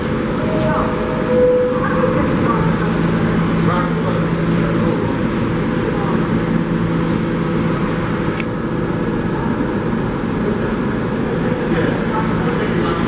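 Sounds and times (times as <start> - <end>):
subway station rumble: 0.0 - 13.0.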